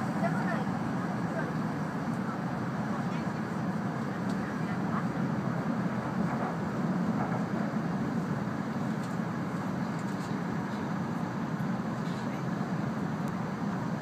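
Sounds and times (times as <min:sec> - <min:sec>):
train cabin rumble and rush: 0:00.0 - 0:14.0.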